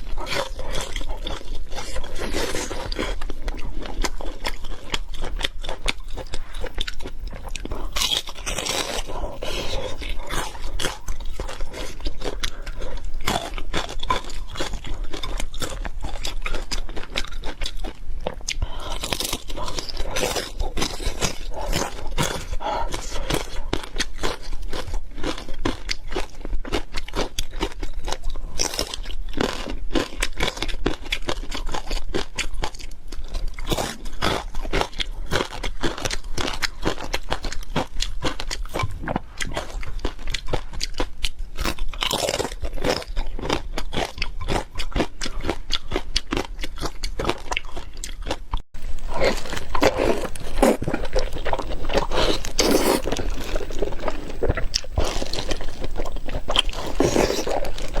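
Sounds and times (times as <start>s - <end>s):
chewing crisp food: 0.0s - 58.0s.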